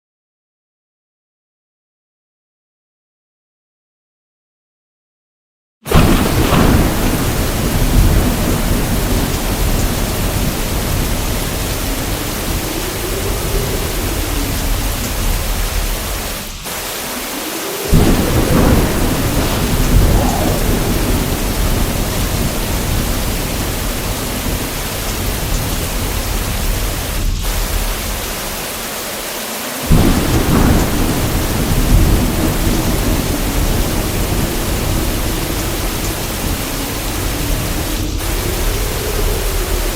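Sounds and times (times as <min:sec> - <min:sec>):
thunder cracking and rolling: 0:05.9 - 0:29.2, 0:29.8 - 0:39.9
heavy rain: 0:05.9 - 0:39.9.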